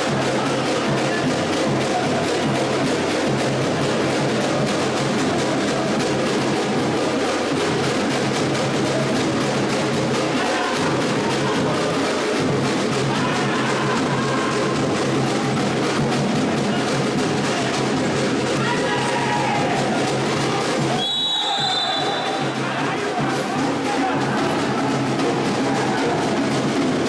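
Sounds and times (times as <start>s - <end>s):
music with drums and percussion: 0.0s - 27.0s.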